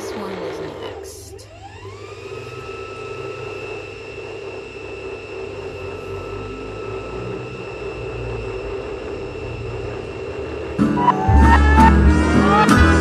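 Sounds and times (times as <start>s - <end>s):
motor hum with high whine: 0.0s - 13.0s.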